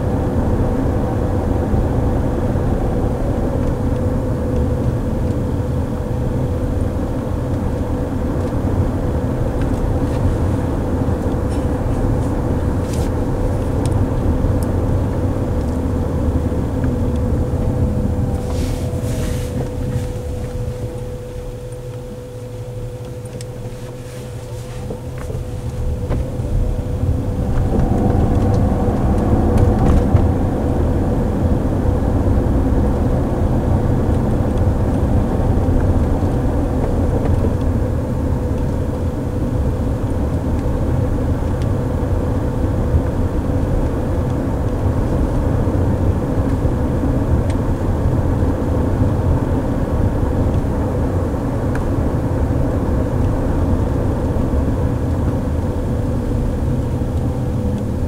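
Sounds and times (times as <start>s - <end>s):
road and tyre noise: 0.0s - 58.0s
steady whine: 0.0s - 58.0s.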